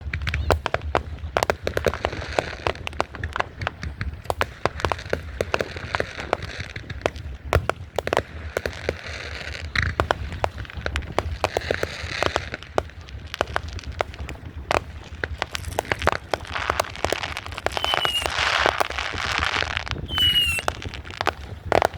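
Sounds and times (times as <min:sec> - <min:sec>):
fireworks cracking and popping: 0:00.0 - 0:21.9
fireworks crackling: 0:00.0 - 0:21.9.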